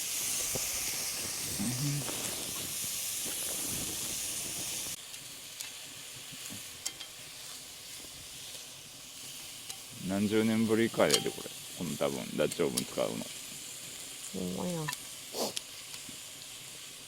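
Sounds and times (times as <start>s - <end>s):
pot sizzling over campfire: 0.0s - 17.0s
sharp crackles: 0.0s - 17.0s.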